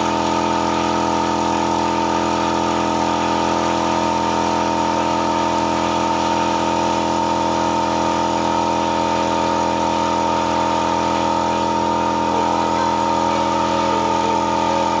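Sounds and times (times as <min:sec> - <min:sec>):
machine humming steadily: 0:00.0 - 0:15.0.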